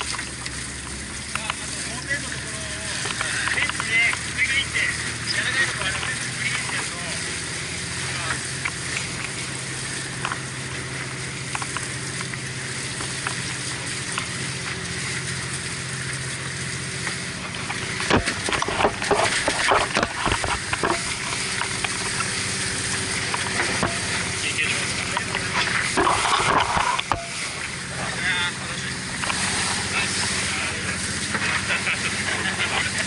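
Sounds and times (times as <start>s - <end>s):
boat engine hum: 0.0s - 33.0s
water rushing along a hull: 0.0s - 33.0s.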